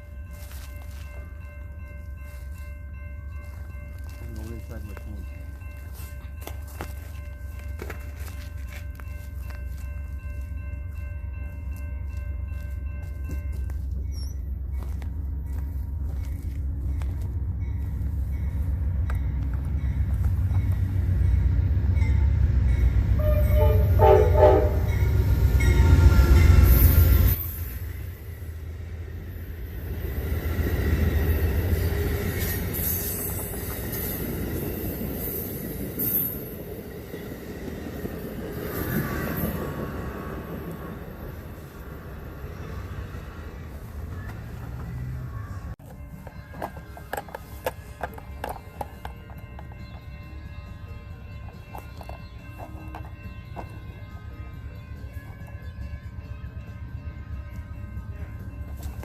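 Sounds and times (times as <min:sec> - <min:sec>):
train rumbling past: 0:00.0 - 0:59.0.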